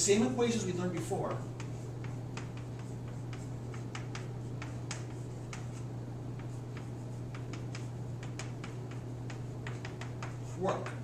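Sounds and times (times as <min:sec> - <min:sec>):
low steady hum: 0:00.0 - 0:11.0
chalk clicking on chalkboard: 0:00.8 - 0:11.0.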